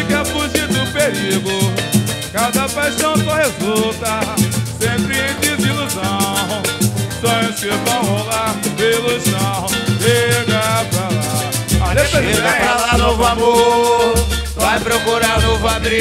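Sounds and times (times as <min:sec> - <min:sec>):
frame drum and hand drum beat: 0:00.0 - 0:16.0.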